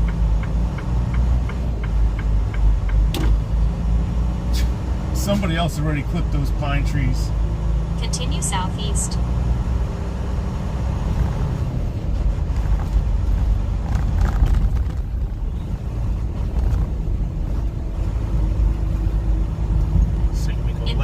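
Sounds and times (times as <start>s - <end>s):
diesel engine rumble: 0.0s - 21.0s
road noise: 0.0s - 21.0s.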